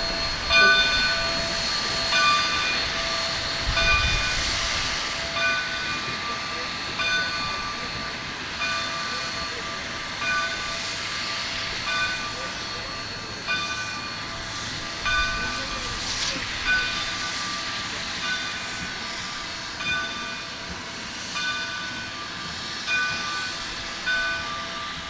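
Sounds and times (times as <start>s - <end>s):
locomotive bell clanging: 0.0s - 25.0s
steam hissing: 0.0s - 25.0s.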